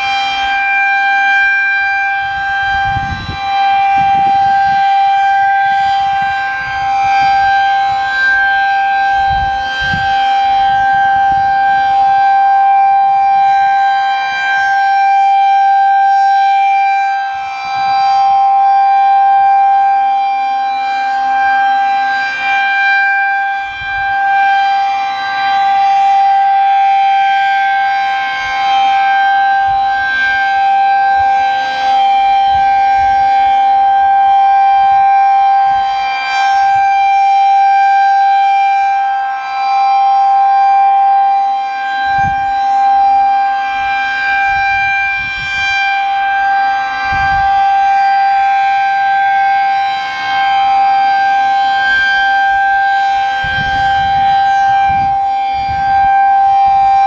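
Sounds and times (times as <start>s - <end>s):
electromechanical siren steady tone: 0.0s - 57.0s.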